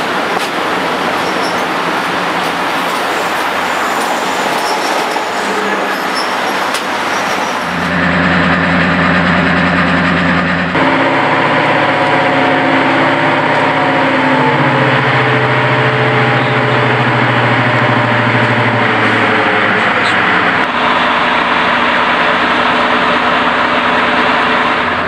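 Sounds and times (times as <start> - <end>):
diesel locomotive engine idling: 0.0 - 25.0.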